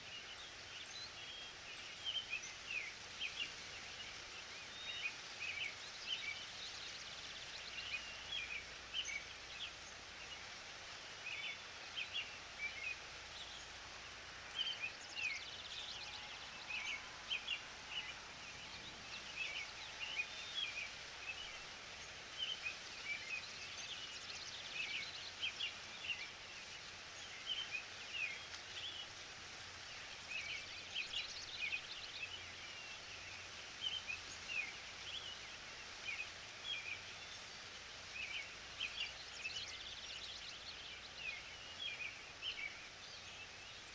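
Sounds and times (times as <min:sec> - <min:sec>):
small birds chirping: 0:00.0 - 0:43.9
steady background hiss: 0:00.0 - 0:43.9.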